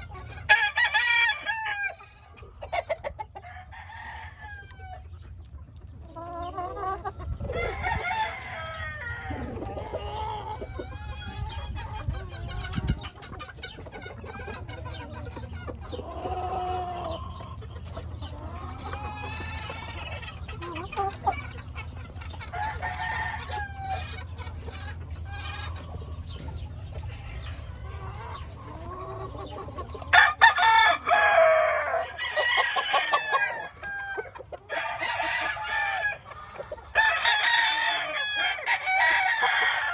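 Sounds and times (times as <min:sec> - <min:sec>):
roosters crowing: 0:00.0 - 0:05.2, 0:06.4 - 0:13.0, 0:18.2 - 0:26.6, 0:27.3 - 0:39.9
hens clucking: 0:00.0 - 0:39.9.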